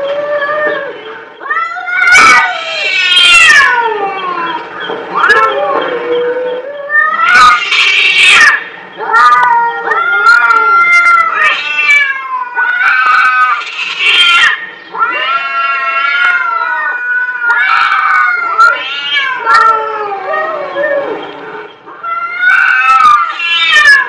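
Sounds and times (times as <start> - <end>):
cats yowling: 0.0 - 24.0.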